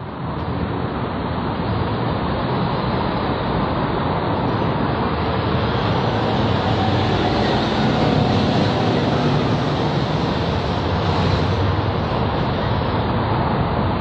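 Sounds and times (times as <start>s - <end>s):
street traffic passing: 0.0s - 14.0s.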